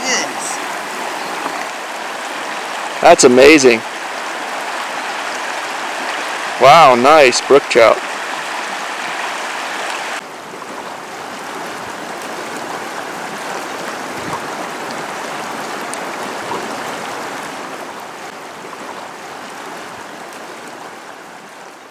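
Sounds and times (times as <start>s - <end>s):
creek water rushing: 0.0s - 21.9s.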